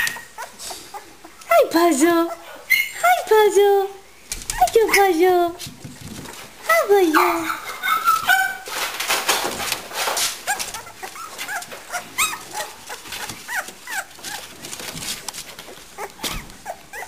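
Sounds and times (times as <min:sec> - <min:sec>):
puppies squeaking and whimpering: 0:00.0 - 0:03.2, 0:04.3 - 0:05.4, 0:06.0 - 0:17.0.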